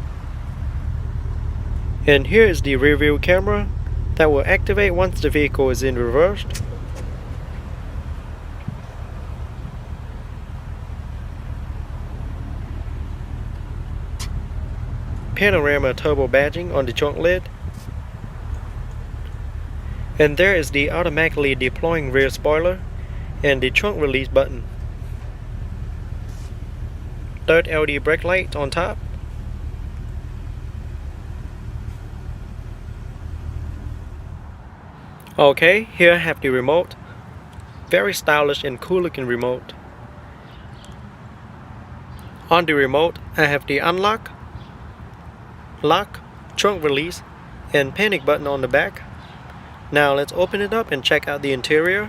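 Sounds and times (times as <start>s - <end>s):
low outdoor background rumble: 0.0s - 52.0s.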